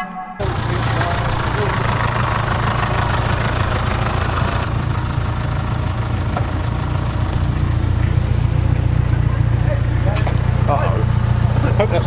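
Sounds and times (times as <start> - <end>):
car engine humming: 0.4 - 12.0.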